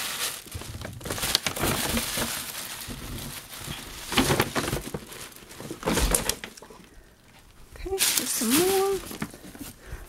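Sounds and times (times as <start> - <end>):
tissue paper crinkling: 0.0 - 6.6, 7.8 - 9.8.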